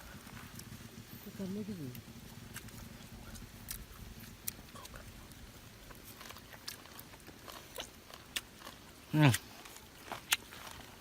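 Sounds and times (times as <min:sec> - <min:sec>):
people chewing: 0:01.8 - 0:11.0.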